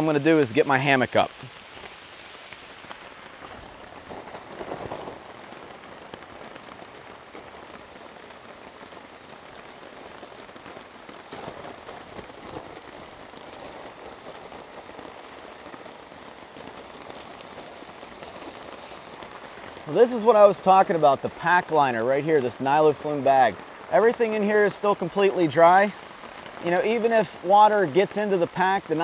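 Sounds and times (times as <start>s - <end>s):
rain on a tarp: 0.0s - 29.0s.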